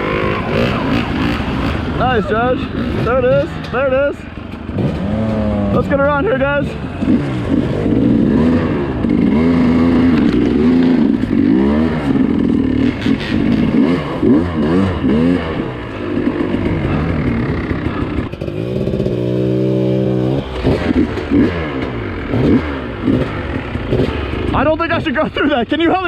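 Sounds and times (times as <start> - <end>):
dirt bike engine revving: 0.0 - 25.5.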